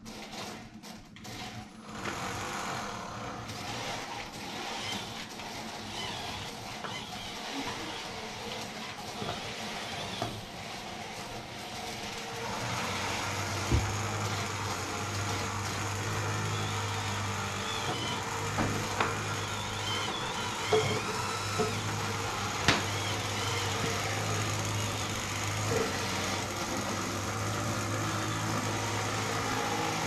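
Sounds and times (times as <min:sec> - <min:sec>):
electric motors whirring: 0:01.2 - 0:30.0.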